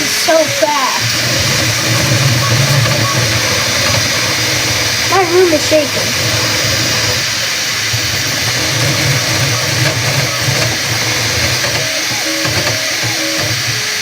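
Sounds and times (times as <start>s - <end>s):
short whining tones: 0.0s - 14.0s
three d printer whirring: 0.0s - 14.0s.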